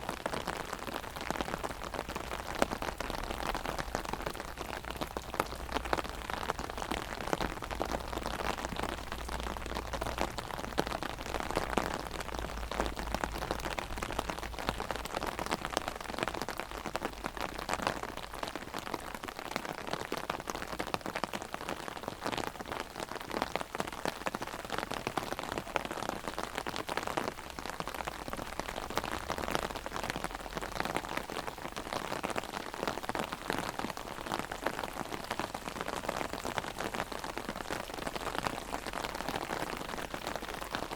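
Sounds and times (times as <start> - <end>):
heavy rain on an umbrella: 0.0 - 40.9.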